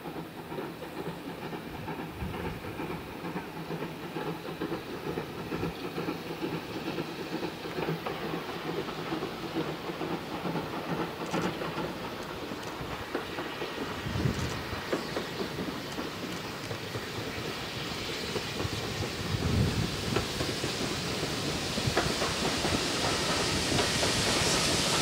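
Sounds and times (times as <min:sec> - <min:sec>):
steam locomotive exhaust: 0:00.0 - 0:25.0
wheels on rails: 0:00.0 - 0:25.0.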